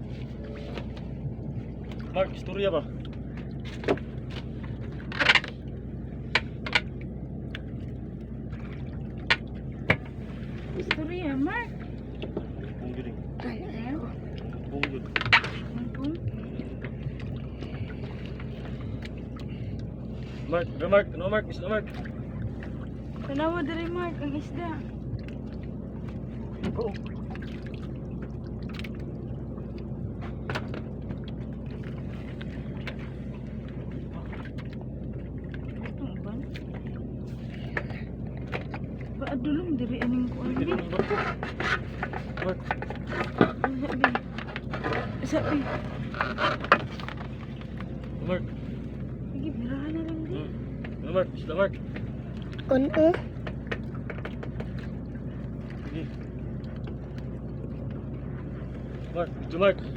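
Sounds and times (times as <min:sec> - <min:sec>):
boat engine running: 0:00.0 - 0:59.9
water splashing: 0:00.0 - 0:59.9.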